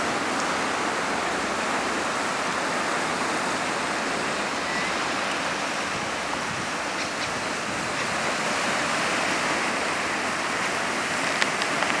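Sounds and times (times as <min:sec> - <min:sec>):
waves breaking on rocks: 0:00.0 - 0:12.0.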